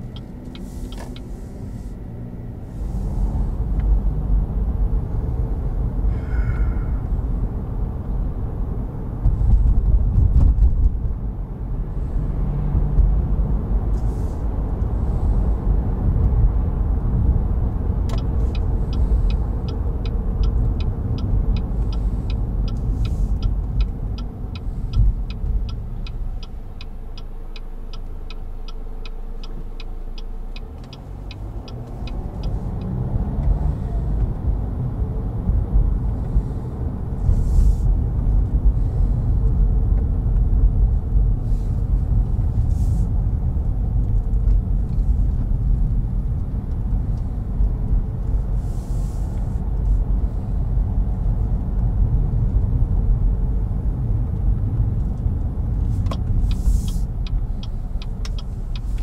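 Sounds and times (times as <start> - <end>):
turn signal ticking: 0.0 - 1.8, 12.6 - 59.0
car road and engine noise: 0.0 - 59.0.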